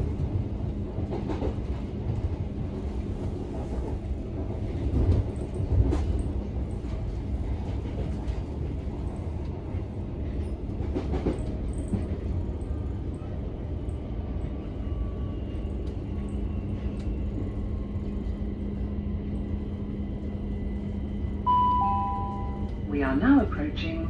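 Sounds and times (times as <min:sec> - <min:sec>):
constant train hum: 0:00.0 - 0:24.0
train wheels rumbling on track: 0:00.0 - 0:24.0.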